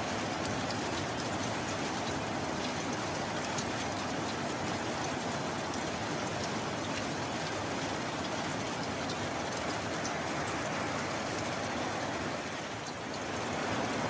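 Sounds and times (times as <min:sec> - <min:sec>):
raindrops ticking: 0:00.0 - 0:14.0
steady rain hissing: 0:00.0 - 0:14.0.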